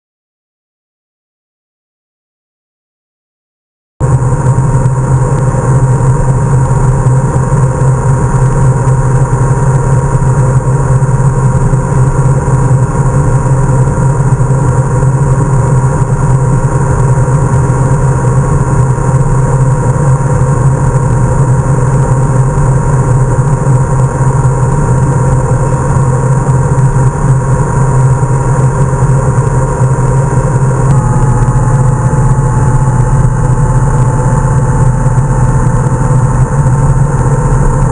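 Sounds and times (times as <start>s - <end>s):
motorcycle engine drone: 4.0s - 37.9s.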